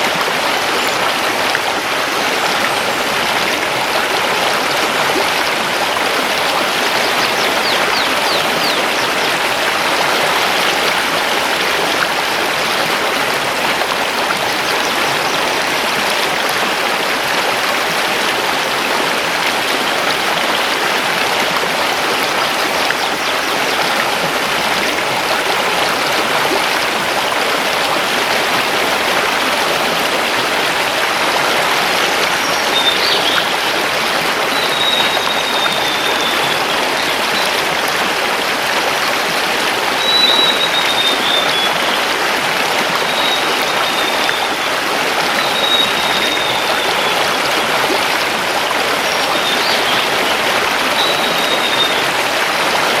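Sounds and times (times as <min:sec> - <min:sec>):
river rushing over stones: 0:00.0 - 0:53.0.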